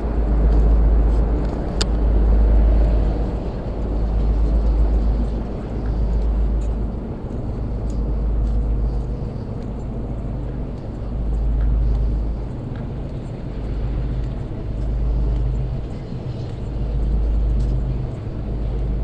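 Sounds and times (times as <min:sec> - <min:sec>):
deep rumble: 0:00.0 - 0:19.0.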